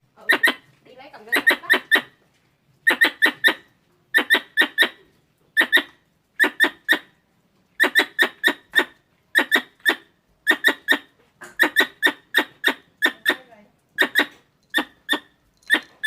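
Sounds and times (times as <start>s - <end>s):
squirrel squeaky chirps: 0.2s - 2.2s, 2.8s - 7.1s, 7.8s - 16.0s.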